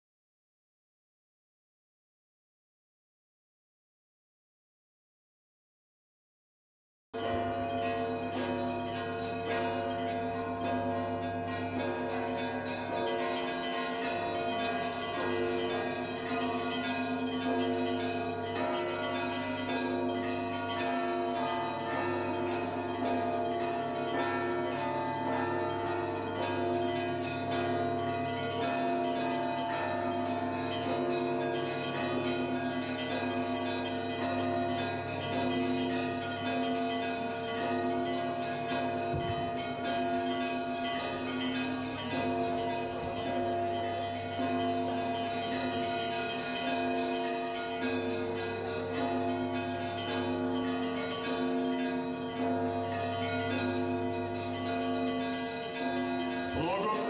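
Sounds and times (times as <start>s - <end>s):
church bells pealing: 7.2s - 57.0s.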